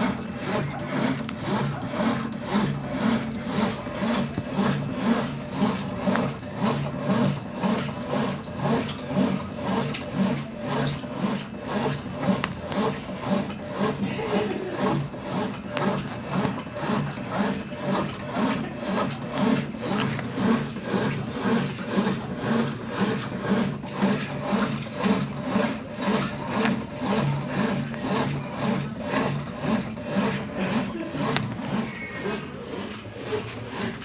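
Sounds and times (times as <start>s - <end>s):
washing machine drum churning: 0.0s - 34.0s.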